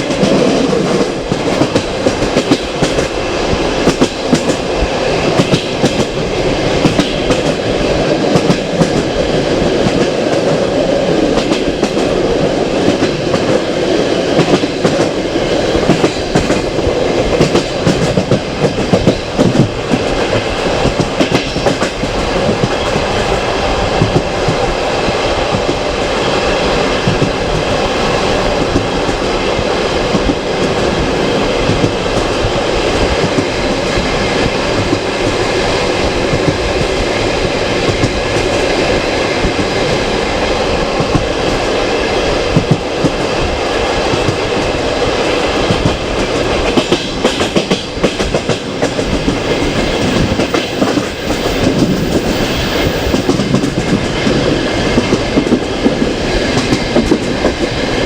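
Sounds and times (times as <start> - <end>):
clickety-clack of rail joints: 0.0 - 58.0
train wheels rumbling on rails: 0.0 - 58.0.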